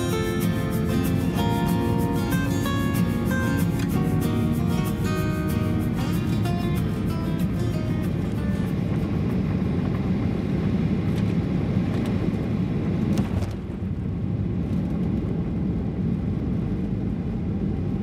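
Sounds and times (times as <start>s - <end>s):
aircraft cabin rumble: 0.0s - 18.0s.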